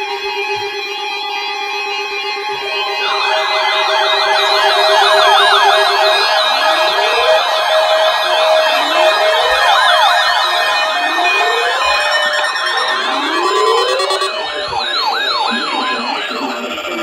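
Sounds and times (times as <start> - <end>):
steady siren tone: 1.4 - 17.0
fast warbling siren yelp: 2.1 - 17.0
rising siren wail: 2.1 - 17.0.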